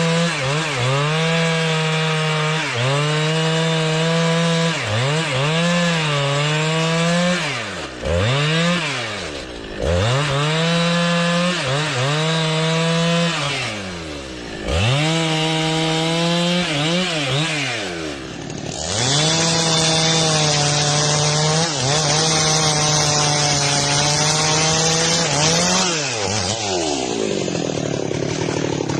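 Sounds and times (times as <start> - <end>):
chainsaw cutting logs: 0.0 - 28.9.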